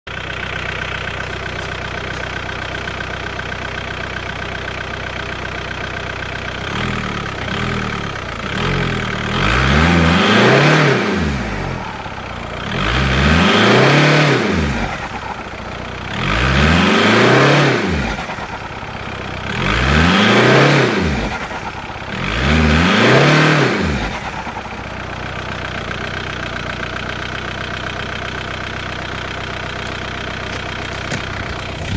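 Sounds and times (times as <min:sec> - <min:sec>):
diesel engine idling and revving: 0:00.1 - 0:31.9.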